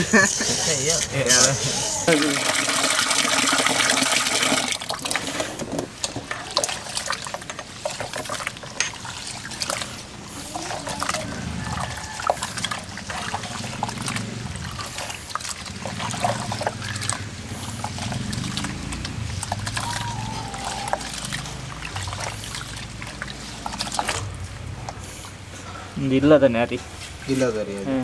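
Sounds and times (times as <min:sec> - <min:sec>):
water rushing: 0:00.0 - 0:25.5
water trickling and splashing: 0:00.0 - 0:28.0.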